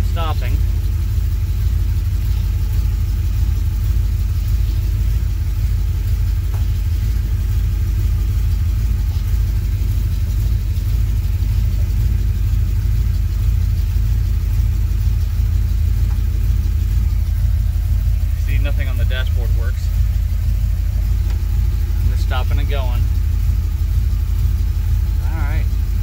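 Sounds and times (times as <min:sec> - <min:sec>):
pickup engine low rumble: 0:00.0 - 0:26.0.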